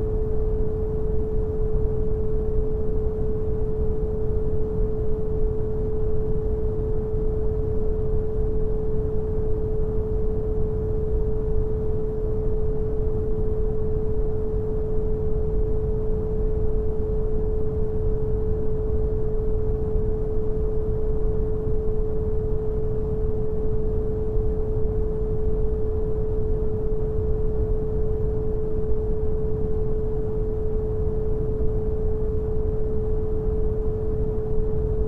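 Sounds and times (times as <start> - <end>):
pure sine tone: 0.0 - 35.0.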